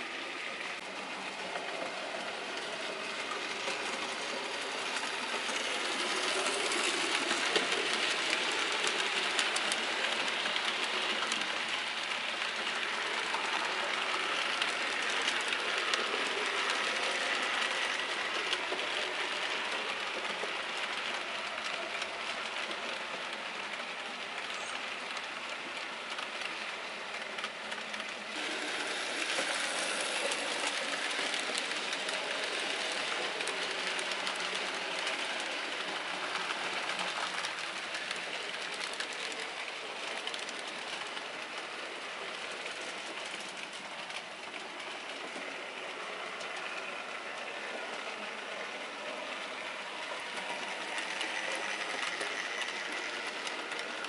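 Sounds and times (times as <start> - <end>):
model train motor whirr: 0.0 - 23.8, 24.4 - 54.0.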